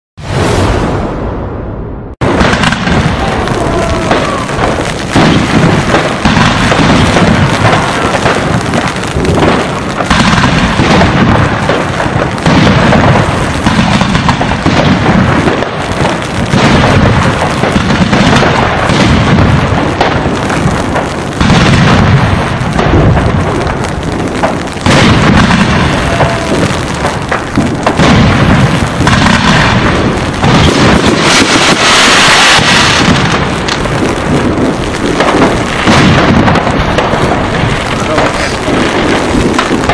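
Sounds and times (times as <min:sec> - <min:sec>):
fireworks booming: 0:00.2 - 0:39.9
fireworks crackling: 0:02.1 - 0:39.9.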